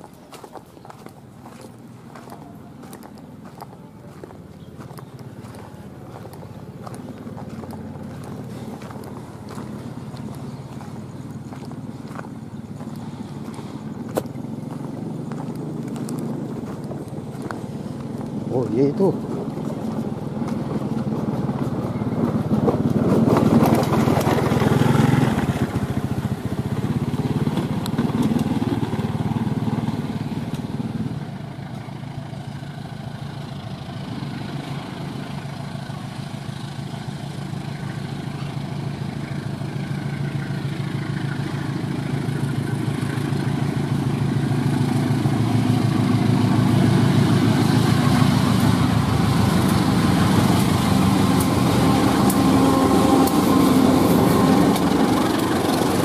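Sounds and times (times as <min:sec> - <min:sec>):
train passing with low rumble: 0:00.0 - 0:56.0.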